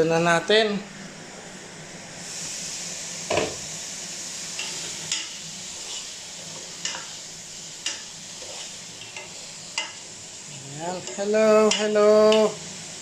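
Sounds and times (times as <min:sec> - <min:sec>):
pork and onions sizzling: 0:01.5 - 0:13.0.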